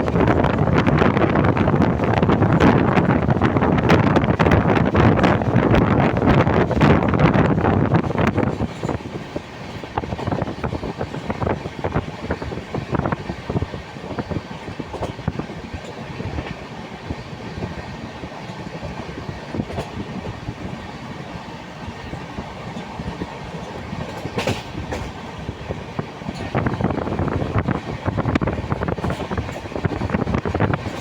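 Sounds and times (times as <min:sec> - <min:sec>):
steady train rumble: 0:00.0 - 0:31.0
train wheels clattering over joints: 0:00.0 - 0:31.0.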